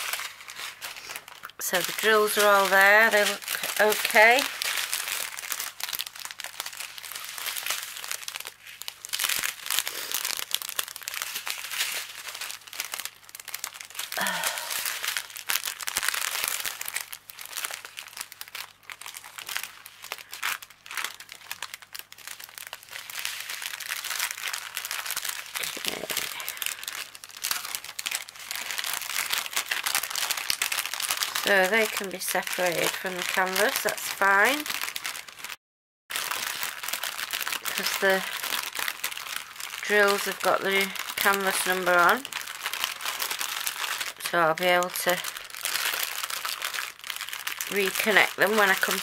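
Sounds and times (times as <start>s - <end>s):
plastic bags crinkling: 0.0s - 49.0s.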